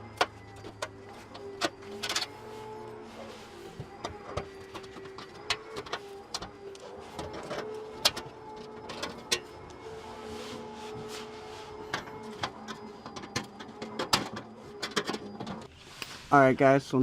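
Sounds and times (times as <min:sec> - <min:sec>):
small electric tool whining: 0:00.0 - 0:15.8.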